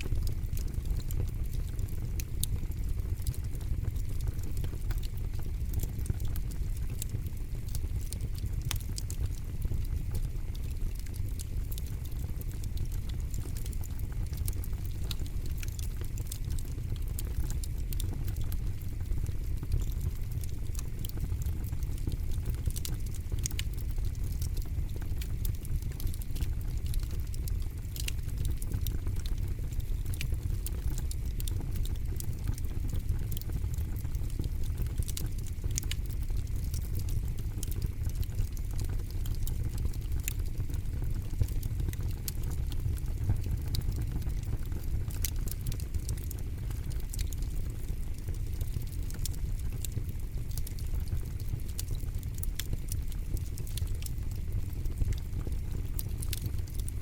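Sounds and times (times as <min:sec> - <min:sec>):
campfire crackling: 0:00.0 - 0:57.0
low steady fire rumble: 0:00.0 - 0:57.0.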